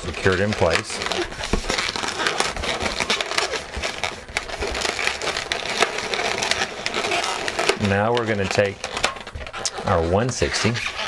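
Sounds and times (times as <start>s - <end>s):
balloons squeaking and rubbing: 0.0s - 11.0s.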